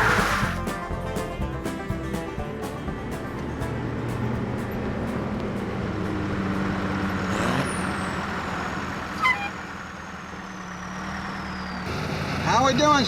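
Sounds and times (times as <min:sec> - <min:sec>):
semi truck running: 0:00.0 - 0:13.0.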